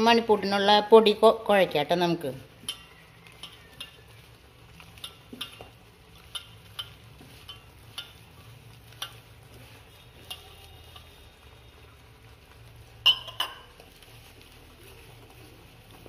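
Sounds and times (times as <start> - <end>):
hand stirring dough in bowl: 0.0 - 16.0.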